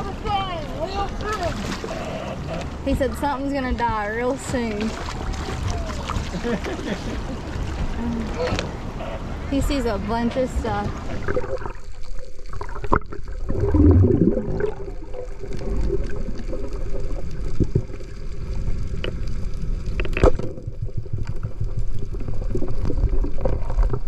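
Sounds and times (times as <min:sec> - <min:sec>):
faint steady hum: 0:00.0 - 0:24.0
muffled underwater sloshing: 0:00.0 - 0:24.0.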